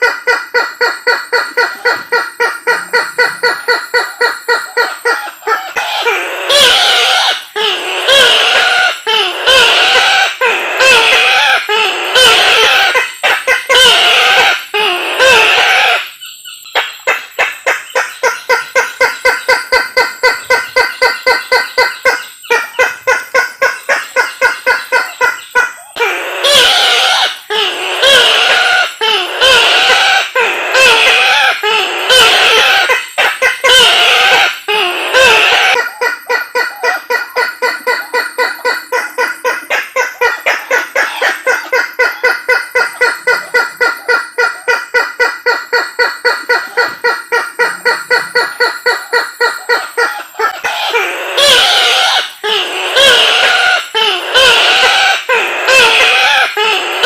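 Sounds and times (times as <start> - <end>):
bush-hen quavering calls: 0.0 - 57.0.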